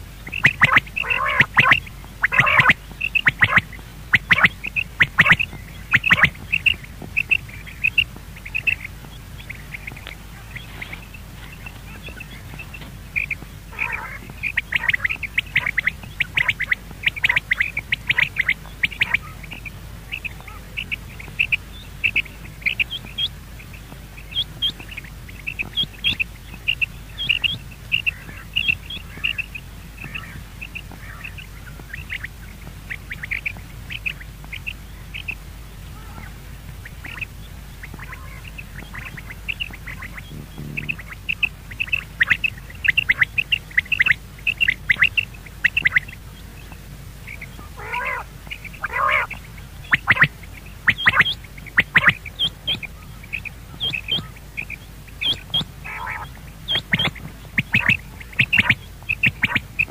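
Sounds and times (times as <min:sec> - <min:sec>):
bird high chirping calls: 0:00.2 - 0:59.9.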